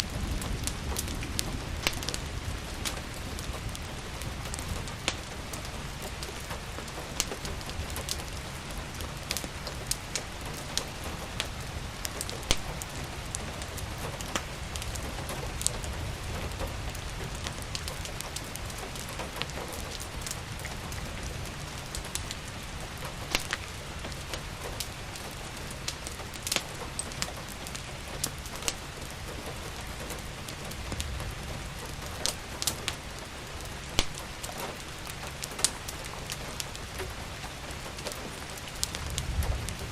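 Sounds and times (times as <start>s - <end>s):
steady rain hissing: 0.0s - 39.9s
wood fire crackling: 0.0s - 39.9s.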